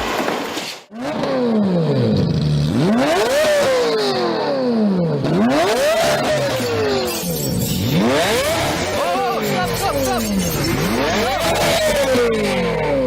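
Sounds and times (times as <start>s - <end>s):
car engine revving: 0.9s - 13.0s.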